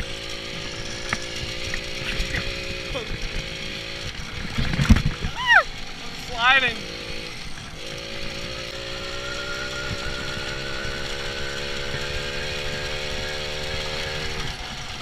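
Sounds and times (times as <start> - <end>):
moped engine running: 0.0 - 15.0.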